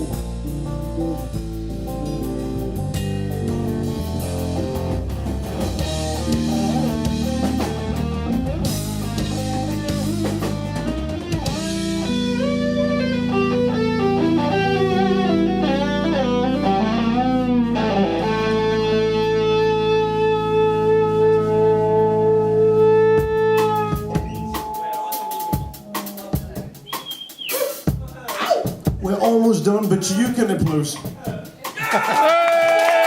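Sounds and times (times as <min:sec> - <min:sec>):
electric guitar melody: 0:00.0 - 0:27.4
rock band playing: 0:00.0 - 0:33.0.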